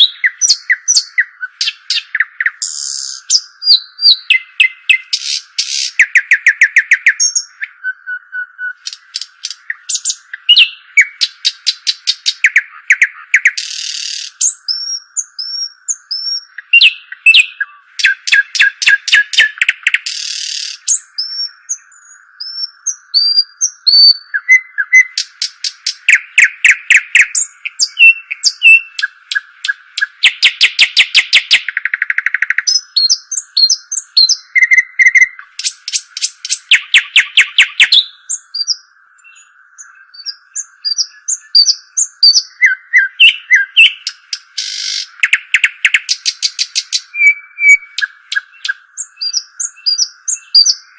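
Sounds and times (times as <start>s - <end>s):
songbird singing trills: 0.0s - 50.9s.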